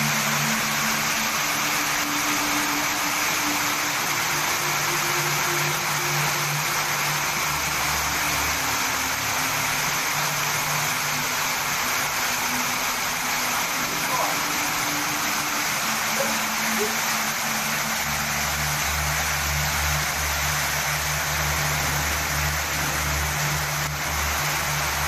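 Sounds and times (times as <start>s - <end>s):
hail and heavy rain on pavement: 0.0s - 25.0s.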